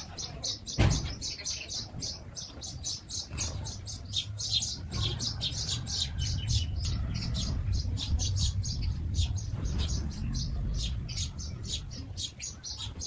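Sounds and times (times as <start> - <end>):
small birds chirping: 0.0 - 13.0
steady low rumble: 1.8 - 13.0.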